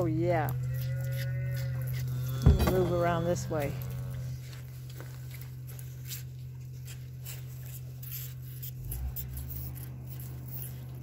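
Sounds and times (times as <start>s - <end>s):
steady low hum: 0.0s - 11.0s
calf sucking on bottle: 0.6s - 4.7s, 5.3s - 11.0s.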